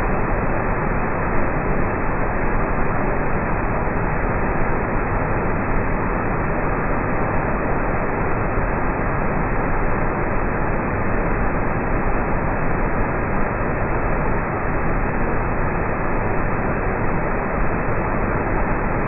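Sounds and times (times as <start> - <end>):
waterfall torrent rushing: 0.0 - 19.0.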